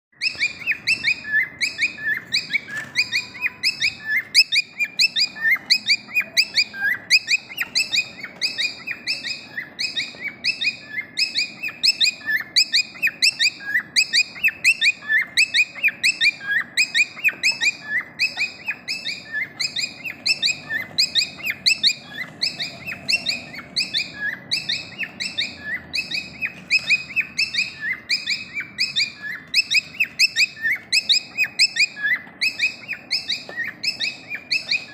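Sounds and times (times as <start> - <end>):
parrot chirping: 0.1 - 34.9.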